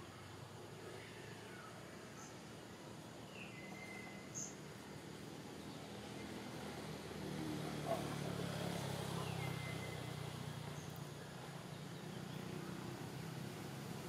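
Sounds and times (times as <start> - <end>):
distant motor engine humming: 0.0 - 14.0.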